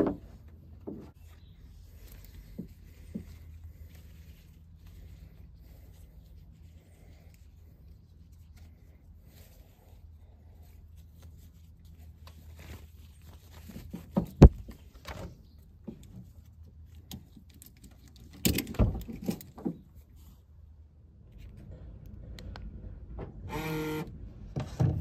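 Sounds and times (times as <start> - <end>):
webbing strap rustling: 0.1 - 21.6.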